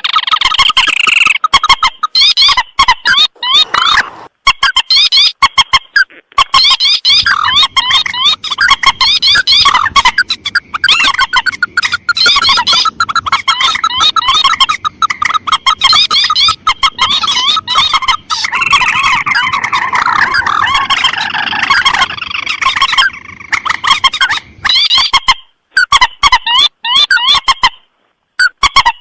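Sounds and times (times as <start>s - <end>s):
rail birds chattering calls: 0.0s - 25.2s.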